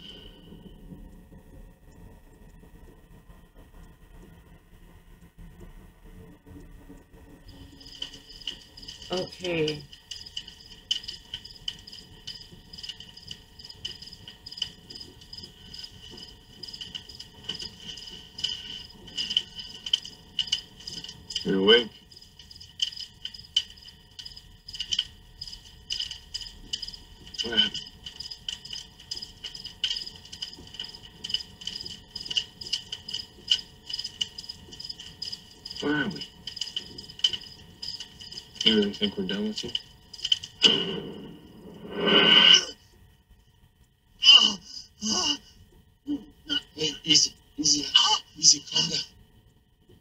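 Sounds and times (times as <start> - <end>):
crickets chirping: 0.0 - 1.1, 7.0 - 50.0.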